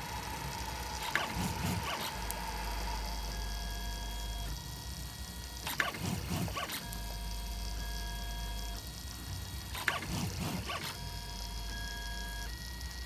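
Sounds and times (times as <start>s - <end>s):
stepper motors whining: 0.0s - 8.9s, 9.6s - 12.9s.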